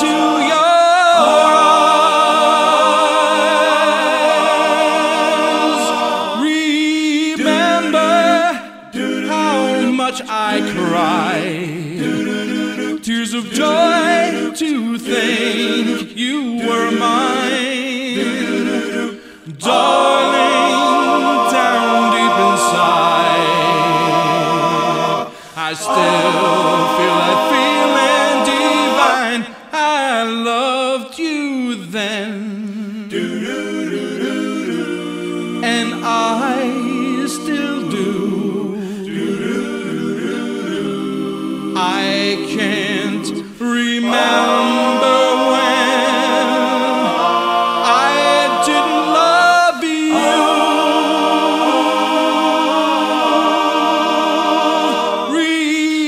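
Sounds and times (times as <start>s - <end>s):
male quartet singing a cappella: 0.0s - 56.0s.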